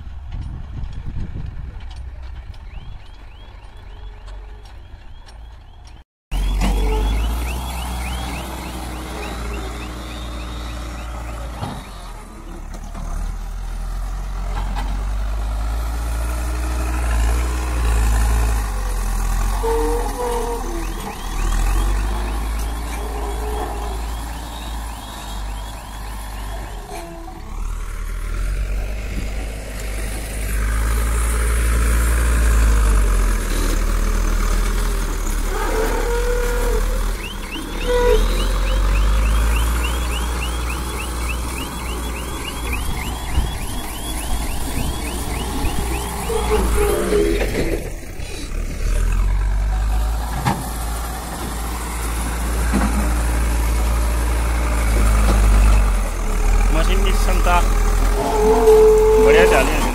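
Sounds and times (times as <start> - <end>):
backhoe diesel engine under load: 0.0 - 59.9.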